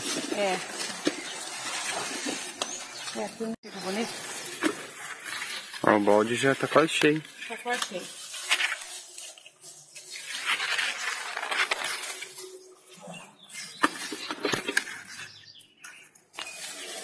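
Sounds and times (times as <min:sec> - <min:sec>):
leaves and branches rustling: 0:00.0 - 0:15.5, 0:16.3 - 0:17.0.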